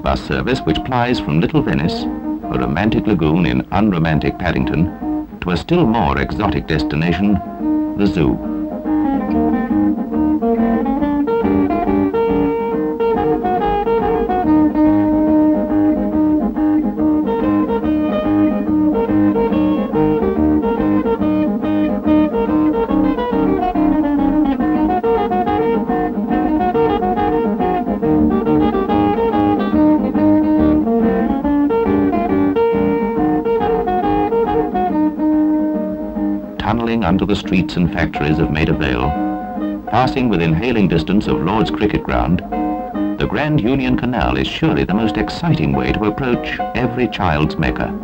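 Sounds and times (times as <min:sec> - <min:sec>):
plucked guitar music: 0:00.0 - 0:48.0.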